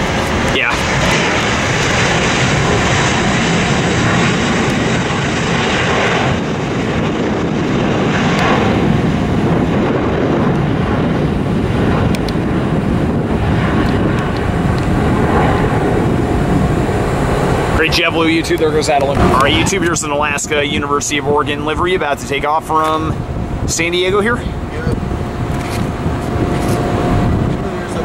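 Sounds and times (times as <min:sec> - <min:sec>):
jet engines roaring at takeoff: 0:00.0 - 0:28.0.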